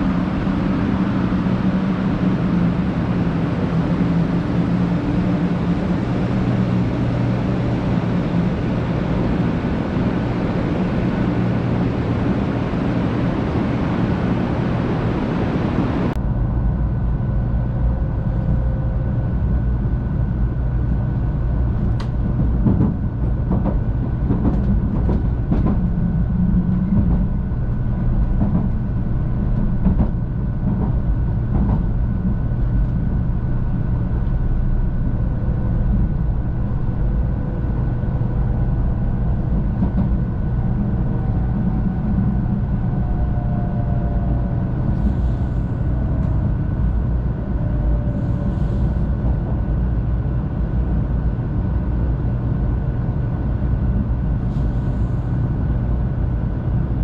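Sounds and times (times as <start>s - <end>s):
train cabin rumble: 0.0s - 57.0s.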